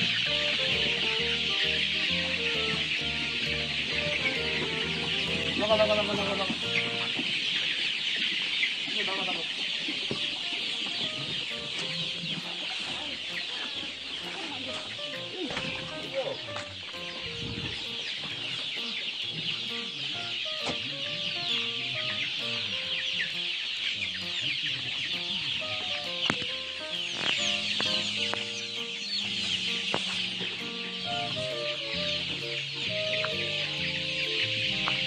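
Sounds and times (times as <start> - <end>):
background music: 0.0 - 7.8, 9.2 - 35.0
chicks peeping: 0.0 - 35.0.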